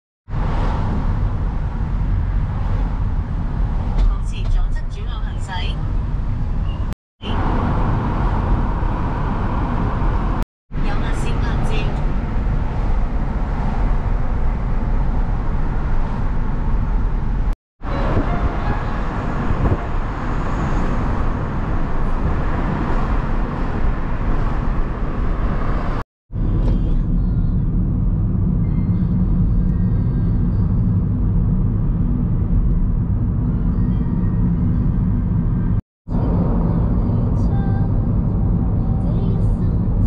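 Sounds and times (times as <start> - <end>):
city traffic: 0.3 - 40.0
tyres rumbling on road inside car: 7.2 - 40.0.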